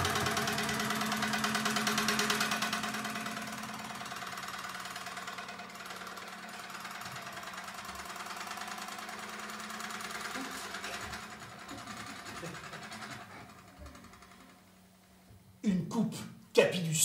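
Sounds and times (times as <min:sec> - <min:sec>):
fast buzzing rattle: 0:00.0 - 0:15.2.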